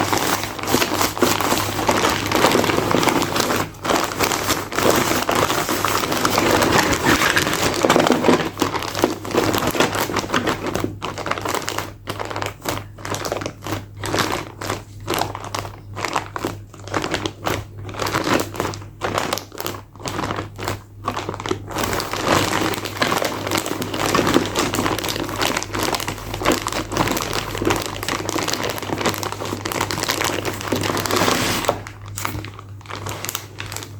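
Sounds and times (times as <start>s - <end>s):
packaging crinkling and rustling: 0.0s - 33.9s.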